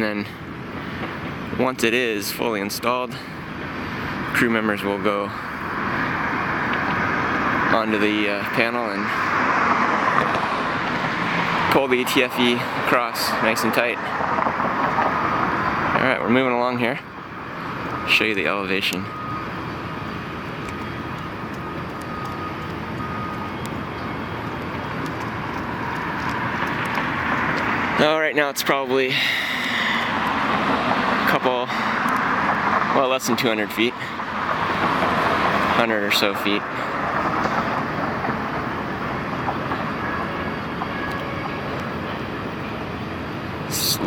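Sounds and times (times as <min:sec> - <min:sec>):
city and site rumble: 0:00.0 - 0:44.0
continuous rushing hum: 0:00.0 - 0:44.0.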